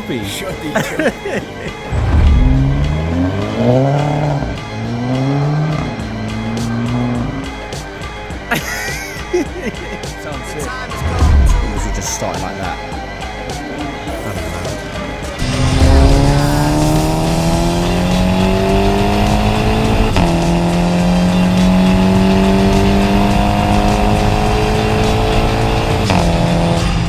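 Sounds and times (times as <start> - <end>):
car engine accelerating hard: 1.4 - 8.5, 9.2 - 27.0.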